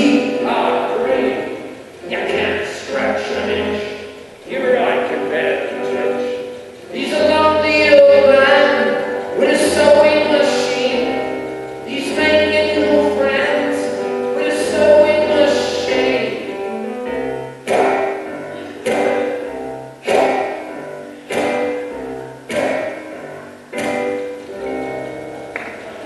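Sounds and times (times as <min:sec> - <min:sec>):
acoustic guitar: 0:00.0 - 0:26.0.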